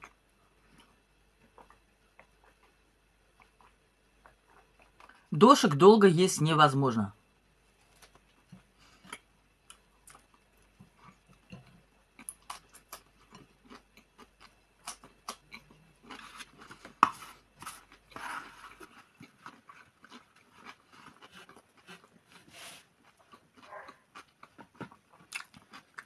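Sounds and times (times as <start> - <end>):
person chewing noodles: 0.0 - 5.3, 8.0 - 26.0.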